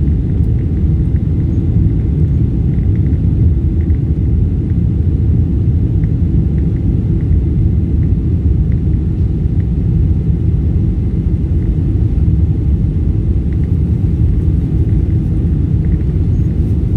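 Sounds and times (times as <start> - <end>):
aircraft cabin engine rumble: 0.0 - 16.9.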